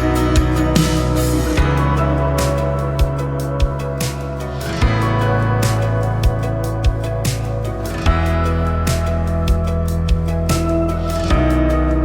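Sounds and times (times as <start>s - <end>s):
chord music with deep bass beat: 0.0s - 12.0s.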